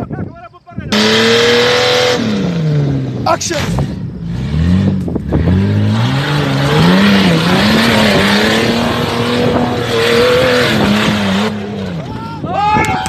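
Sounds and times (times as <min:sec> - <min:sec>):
engine revving hard: 0:00.9 - 0:12.0.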